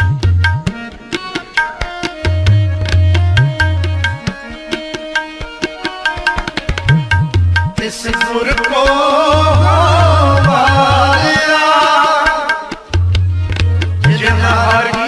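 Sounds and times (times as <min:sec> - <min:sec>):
harmonium notes: 0:00.0 - 0:15.0
tabla strokes: 0:00.0 - 0:15.0.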